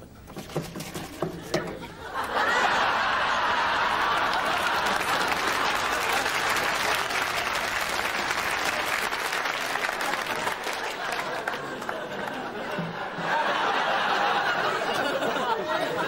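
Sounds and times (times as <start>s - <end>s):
audience applauding: 2.2s - 15.2s.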